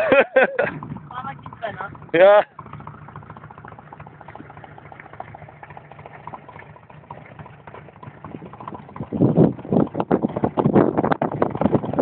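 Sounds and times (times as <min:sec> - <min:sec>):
buggy engine running low: 0:00.0 - 0:12.0.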